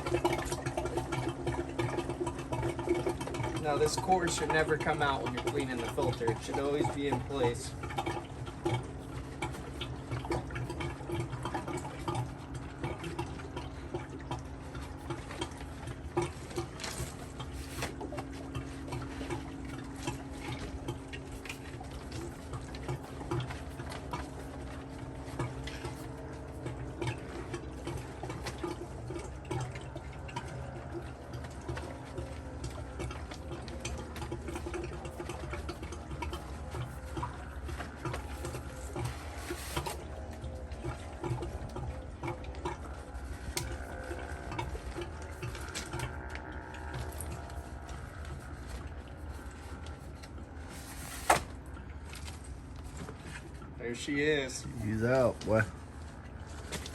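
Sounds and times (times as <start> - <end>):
steady low hum: 0.0 - 56.9
water splashing and trickling: 0.0 - 56.9.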